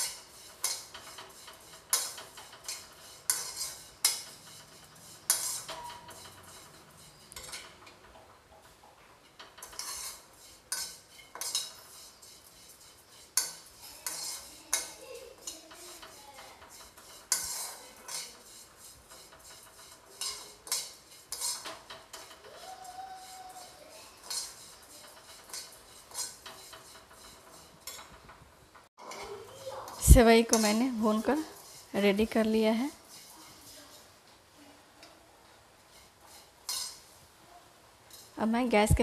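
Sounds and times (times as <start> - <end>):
metal spatula scraping a pan: 0.0 - 34.2, 35.0 - 37.4, 38.1 - 39.0.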